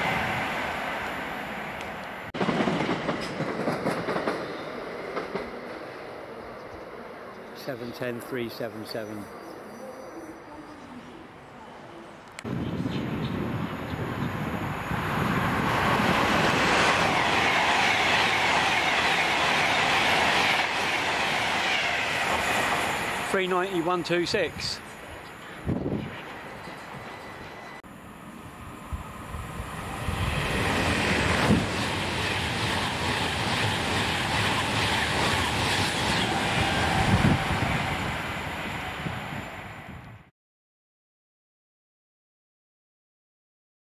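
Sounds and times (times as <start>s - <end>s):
electric train passing: 0.0s - 40.3s.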